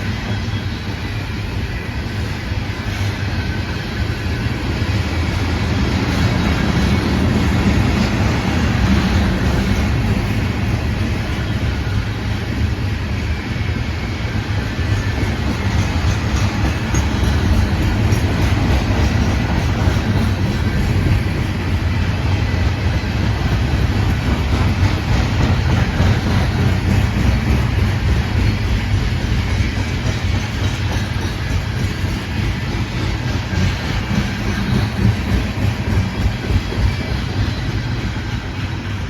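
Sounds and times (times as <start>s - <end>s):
freight train wheels on rails: 0.0s - 39.0s.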